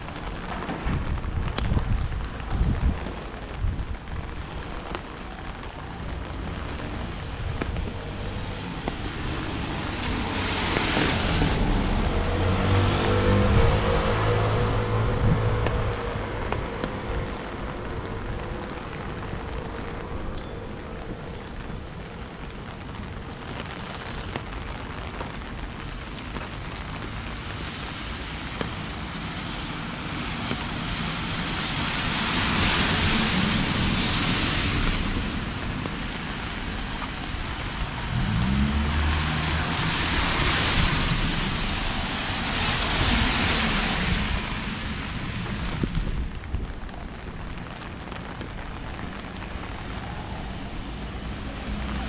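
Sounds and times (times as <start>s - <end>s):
steady rain: 0.0s - 52.0s
tyres hissing on wet road: 0.0s - 52.0s.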